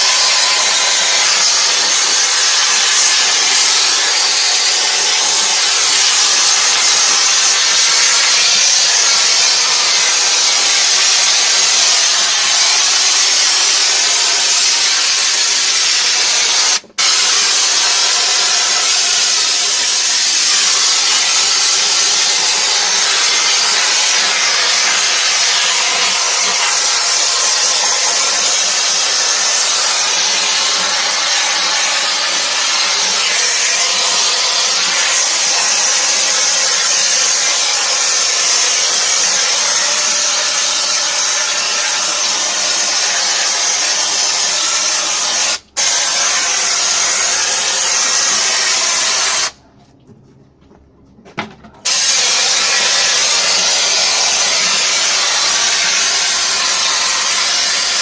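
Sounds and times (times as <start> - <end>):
pressure washer spraying water: 0.0 - 49.6, 51.8 - 58.0.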